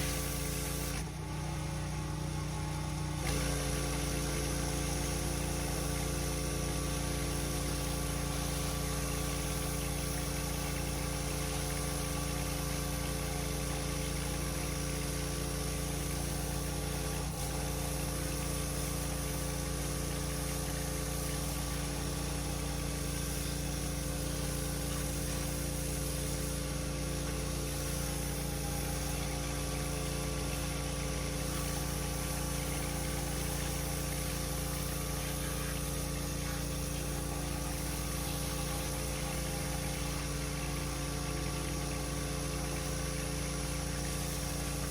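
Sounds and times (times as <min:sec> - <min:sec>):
pressure washer engine running: 0:00.0 - 0:44.9.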